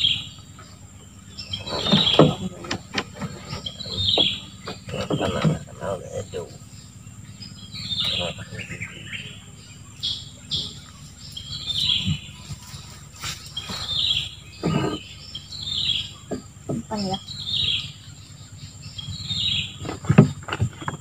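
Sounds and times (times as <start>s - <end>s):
bird singing: 0.0s - 21.0s
low steady hum: 0.0s - 21.0s.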